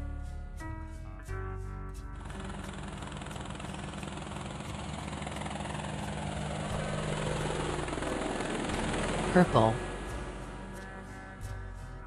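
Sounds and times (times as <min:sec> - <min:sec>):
helicopter rotor and engine: 0:02.2 - 0:12.0.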